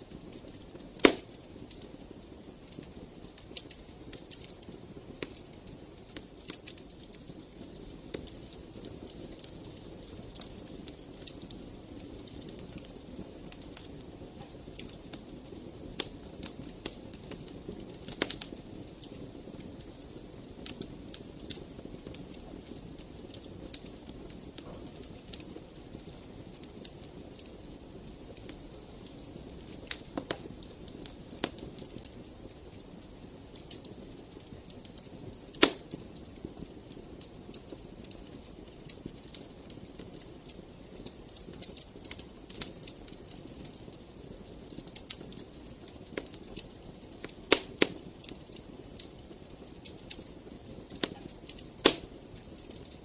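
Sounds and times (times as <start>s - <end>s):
low rumble of flames: 0.0s - 53.0s
wood fire popping and snapping: 0.0s - 53.0s.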